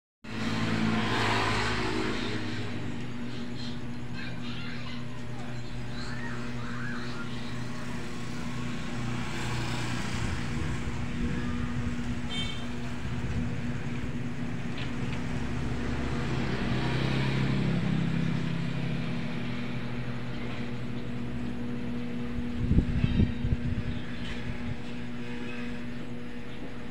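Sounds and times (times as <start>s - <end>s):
vehicle engine humming: 0.2s - 26.9s.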